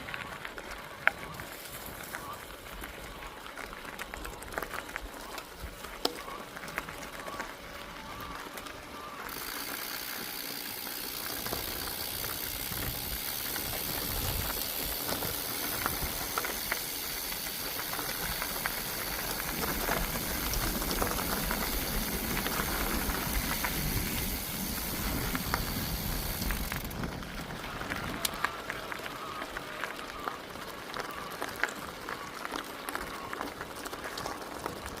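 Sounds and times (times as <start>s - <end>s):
bike clicks and rattles: 0.0s - 35.0s
wind and tyres hissing: 0.0s - 35.0s.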